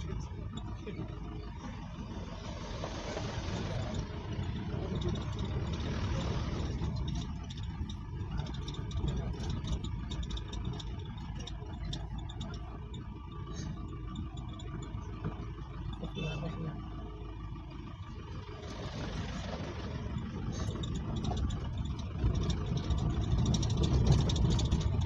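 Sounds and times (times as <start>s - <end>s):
low engine rumble: 0.0s - 25.0s
rattles and clatter: 0.0s - 25.0s.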